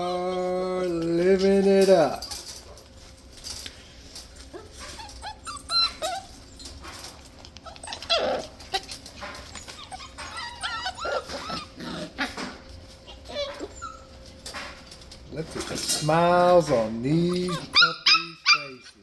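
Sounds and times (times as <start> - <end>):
puppies yipping and squealing: 0.0 - 3.0, 4.2 - 14.5, 15.6 - 19.0.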